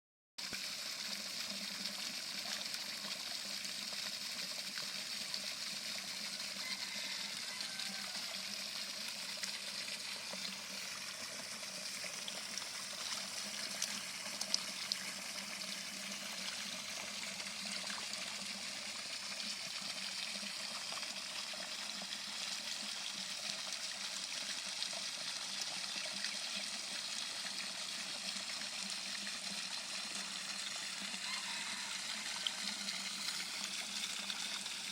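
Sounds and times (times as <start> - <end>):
water trickling: 0.4 - 34.9.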